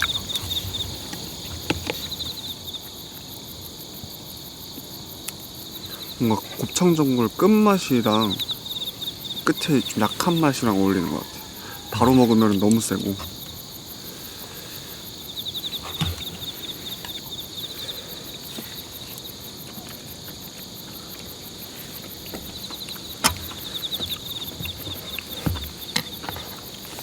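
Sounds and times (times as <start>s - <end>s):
insect pulsed trills: 0.0s - 27.0s
insects chirping chorus: 0.0s - 27.0s.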